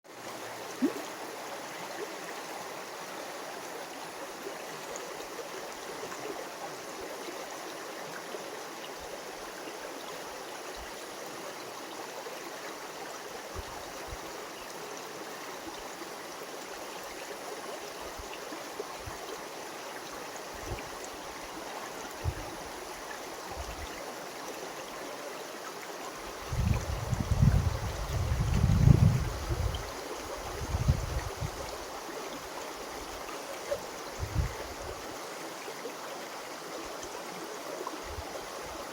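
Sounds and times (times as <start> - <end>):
stream water over rocks: 0.1 - 38.9.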